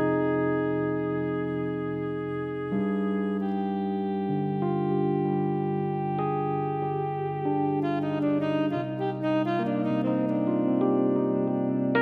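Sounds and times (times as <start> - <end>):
sustained instrumental music: 0.0 - 12.0.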